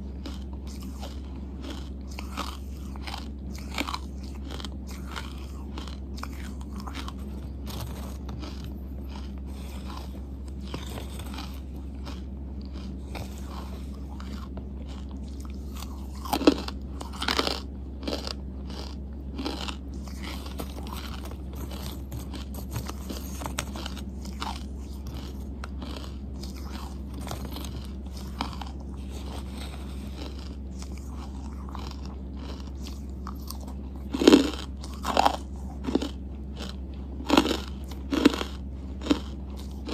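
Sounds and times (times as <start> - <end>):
chewing and crunching charcoal: 0.0 - 39.9
steady low hum: 0.0 - 39.9.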